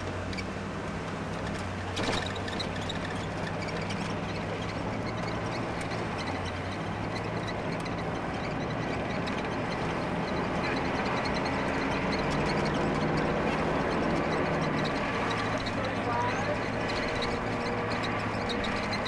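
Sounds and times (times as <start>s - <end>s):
engine drone: 0.0s - 19.0s
wind and road noise: 0.0s - 19.0s.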